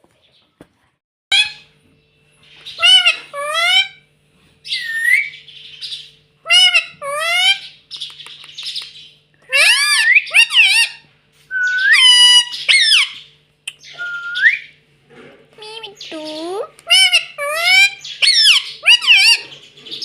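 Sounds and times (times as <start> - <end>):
parrot calling: 1.3 - 1.7, 2.7 - 4.0, 4.6 - 14.8, 15.6 - 20.0.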